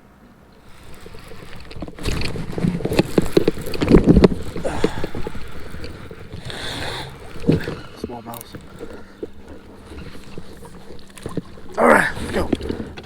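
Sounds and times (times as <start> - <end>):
water splashing: 0.6 - 13.0.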